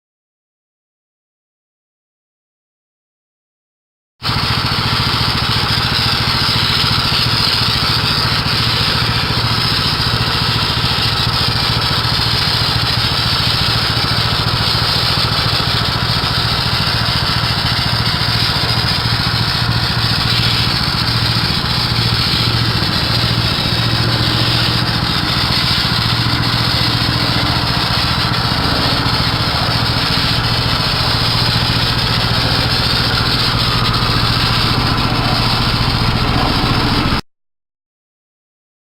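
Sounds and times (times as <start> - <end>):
small gasoline engine running: 4.2 - 37.2.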